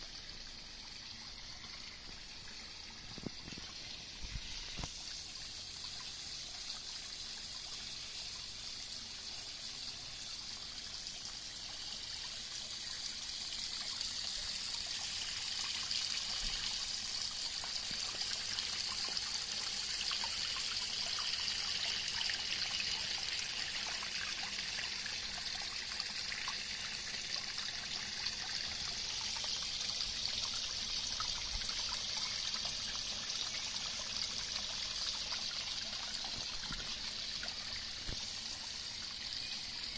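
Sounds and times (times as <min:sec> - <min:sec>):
water pouring into pond: 0:00.0 - 0:39.9.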